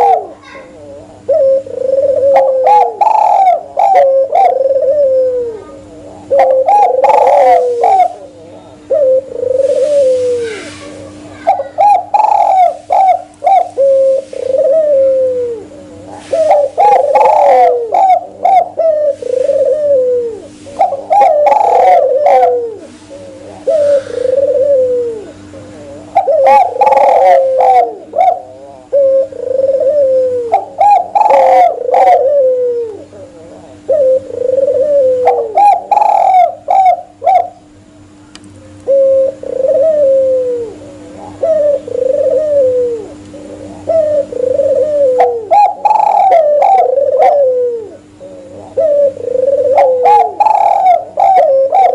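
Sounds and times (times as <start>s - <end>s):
doves cooing: 0.0s - 51.9s
faint steady hum: 0.0s - 51.9s.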